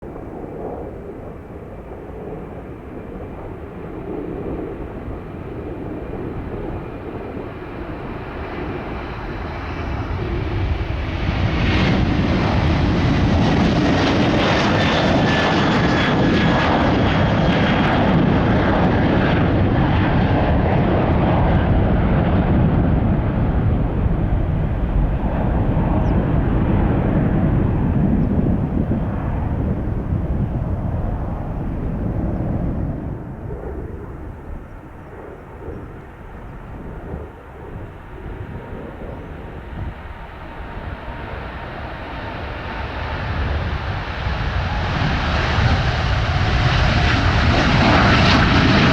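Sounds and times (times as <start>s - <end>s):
faint engine whine gliding downward: 0.0s - 48.9s
jet airliner taking off: 0.0s - 48.9s.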